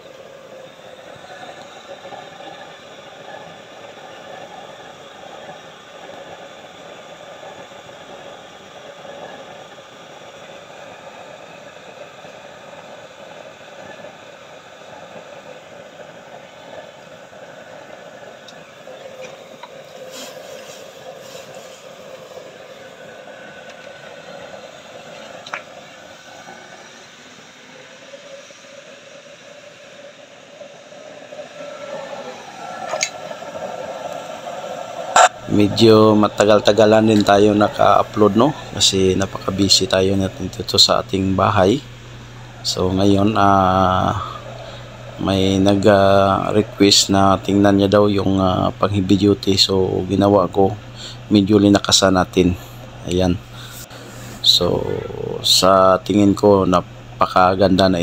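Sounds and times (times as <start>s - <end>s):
burner fan and flame rushing: 0.0s - 58.0s.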